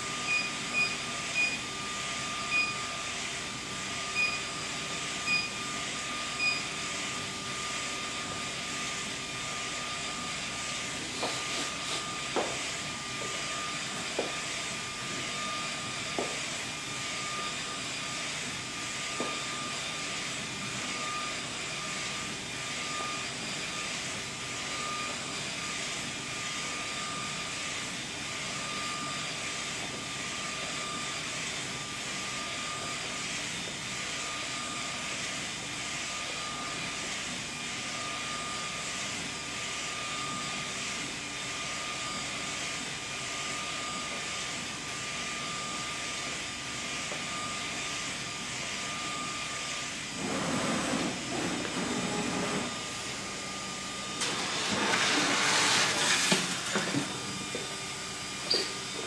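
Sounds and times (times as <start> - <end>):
printer machine whir: 0.0 - 59.0.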